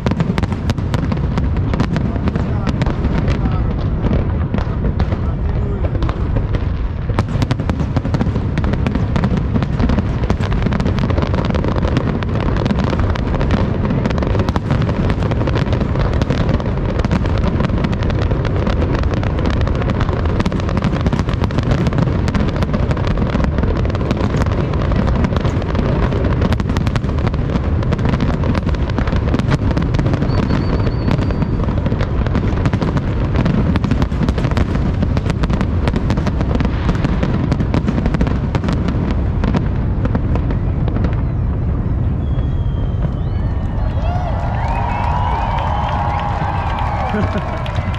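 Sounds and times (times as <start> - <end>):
fireworks crackling and popping: 0.0 - 47.9.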